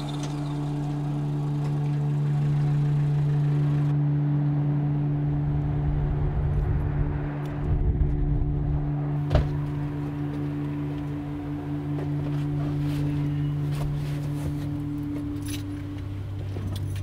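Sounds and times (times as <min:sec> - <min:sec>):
deep rumble: 0:00.0 - 0:16.9.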